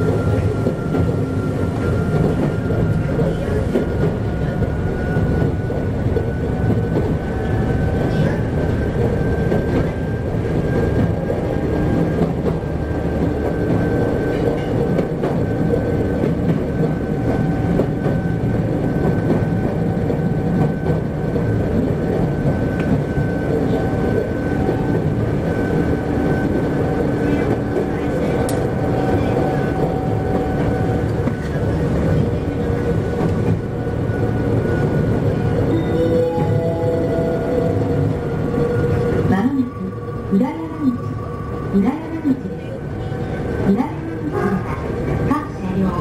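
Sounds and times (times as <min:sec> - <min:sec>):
electric train whine: 0:00.0 - 0:46.0
wheels rumbling on rails: 0:00.0 - 0:46.0.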